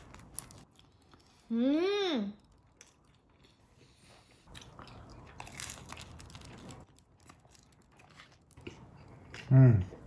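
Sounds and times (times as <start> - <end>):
chewing crunchy bagel: 0.0 - 1.5, 2.4 - 10.0.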